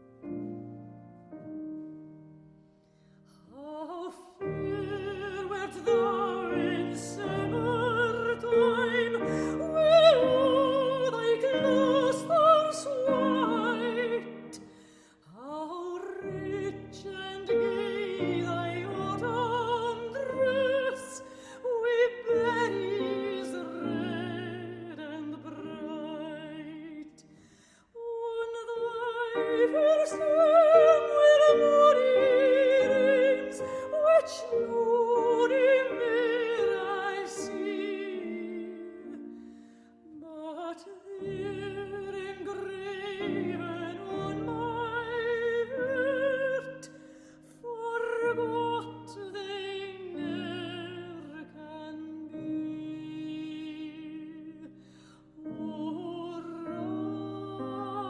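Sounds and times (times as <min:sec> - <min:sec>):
piano accompaniment: 0:00.0 - 0:03.0, 0:03.7 - 0:27.2, 0:28.4 - 0:58.0.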